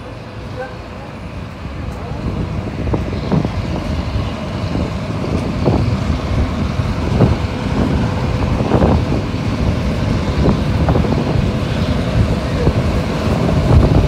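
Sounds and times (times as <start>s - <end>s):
moving train rumble: 0.0s - 14.0s
train knocks and clatters: 0.0s - 14.0s.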